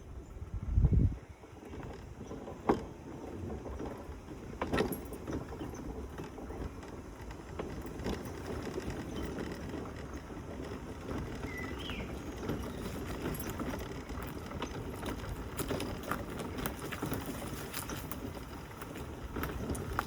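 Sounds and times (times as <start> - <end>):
mobility scooter rumbling: 0.0 - 20.0.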